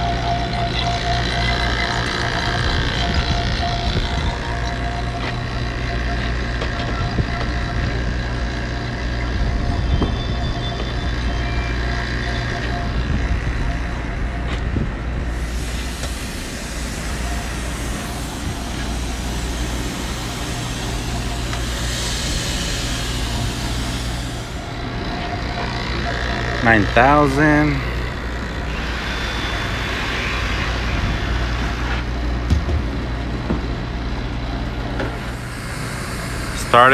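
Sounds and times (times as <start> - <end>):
refrigeration equipment humming: 0.0 - 36.9.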